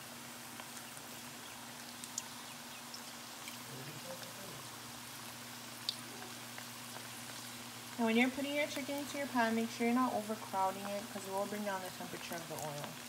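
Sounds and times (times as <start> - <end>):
chicken deep-frying in hot oil: 0.0 - 13.0
low steady hum: 0.0 - 13.0.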